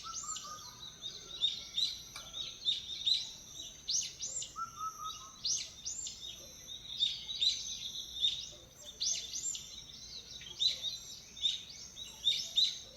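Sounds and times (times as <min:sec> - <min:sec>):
songbirds chirping: 0:00.0 - 0:12.9.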